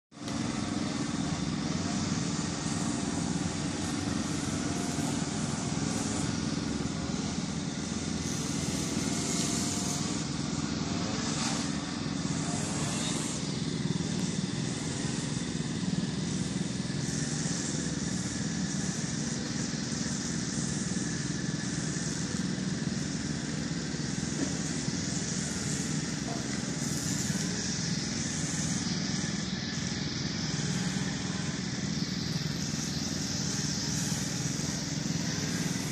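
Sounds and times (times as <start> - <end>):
lawn mower engine running: 0.1 - 35.9.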